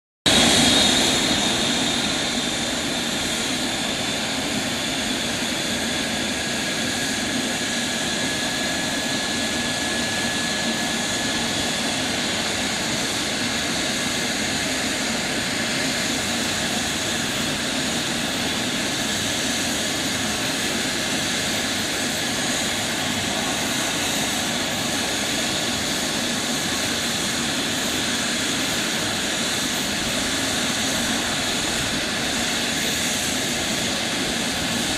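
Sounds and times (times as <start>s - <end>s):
helicopter engine and rotor whine: 0.2s - 34.9s.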